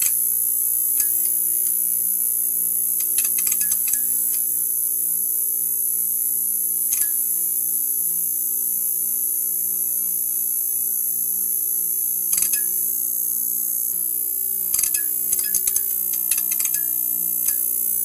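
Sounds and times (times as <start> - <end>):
neon sign humming and buzzing: 0.0 - 18.0.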